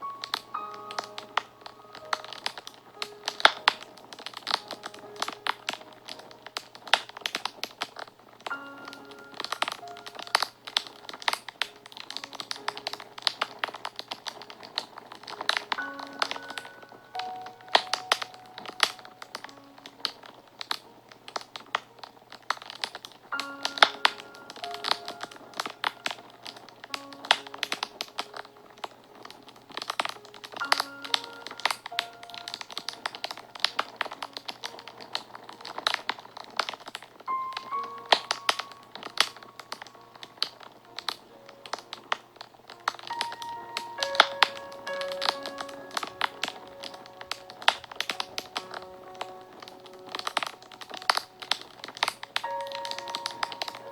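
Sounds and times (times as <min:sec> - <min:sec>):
soft background music: 0:00.0 - 0:53.9
wood fire crackling and popping: 0:00.0 - 0:53.9.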